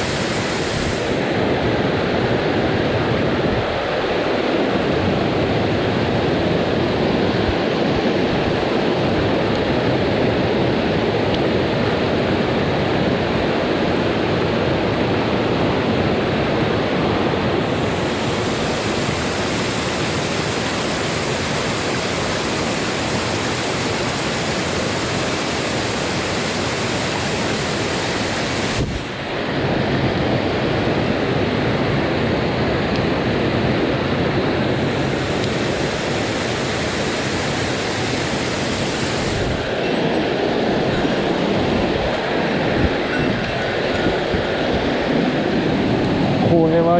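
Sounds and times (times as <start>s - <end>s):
stream water rushing: 0.0s - 46.9s.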